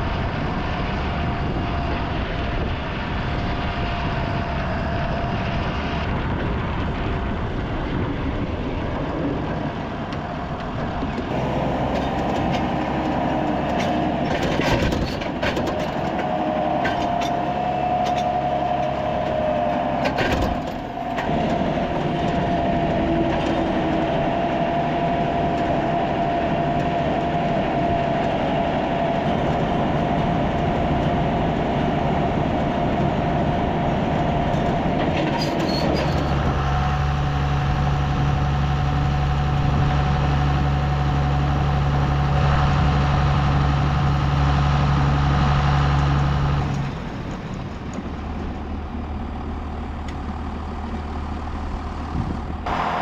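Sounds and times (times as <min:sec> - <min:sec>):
constant machine whine: 0:00.0 - 0:53.0
deep steady drone: 0:00.0 - 0:53.0
heavy farm machinery engine: 0:00.0 - 0:53.0.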